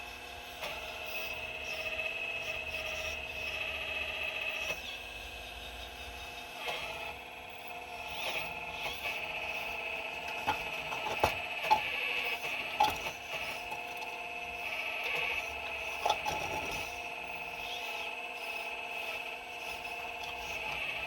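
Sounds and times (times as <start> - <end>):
excavator hydraulic whine: 0.0 - 21.0.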